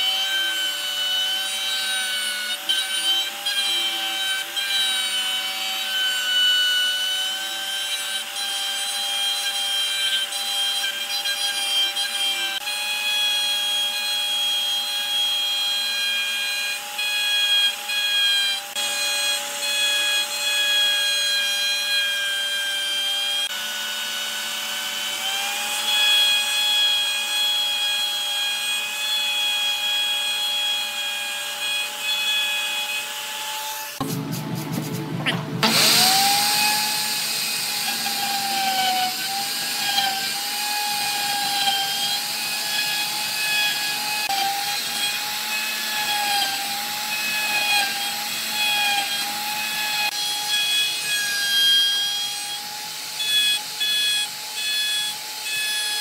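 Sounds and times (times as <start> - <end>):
electric router whining: 0.0 - 56.0
router bit rasping wood: 0.0 - 56.0.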